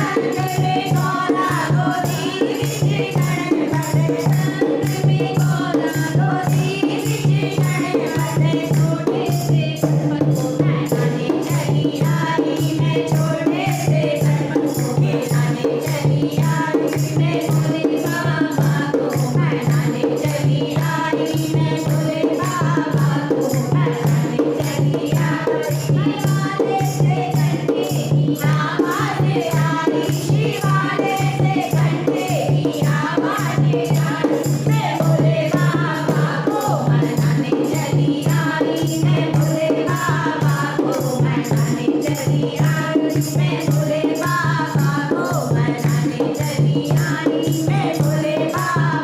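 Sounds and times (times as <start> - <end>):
rattling hand percussion: 0.0 - 49.0
voices singing a melody: 0.0 - 49.0.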